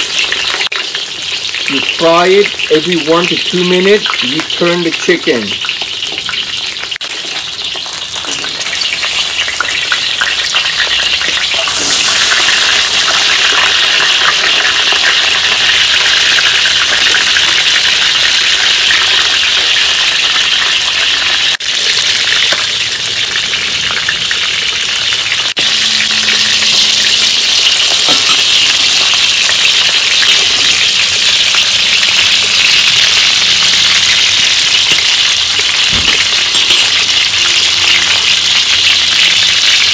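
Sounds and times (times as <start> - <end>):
chicken sizzling in hot oil: 0.0 - 39.9.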